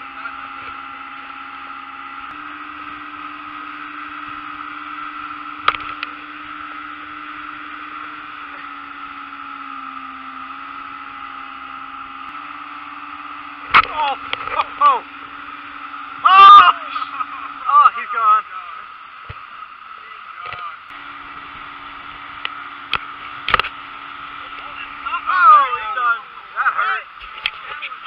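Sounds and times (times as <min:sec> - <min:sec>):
outboard motor running: 0:00.0 - 0:28.0
wind: 0:00.0 - 0:28.0
water rushing: 0:00.1 - 0:28.0.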